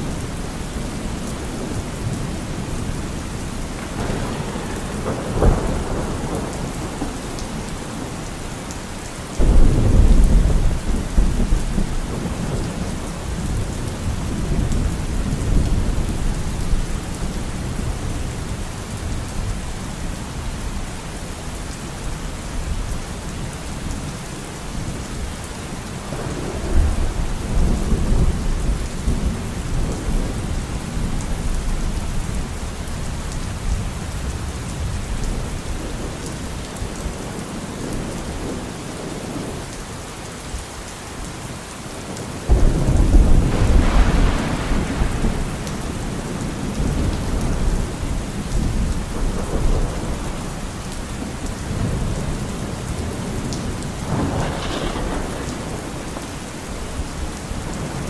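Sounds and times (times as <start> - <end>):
thunder rumbling: 0.0 - 8.7, 9.4 - 19.7, 26.1 - 39.6, 42.4 - 58.0
heavy rain hissing: 0.0 - 58.0.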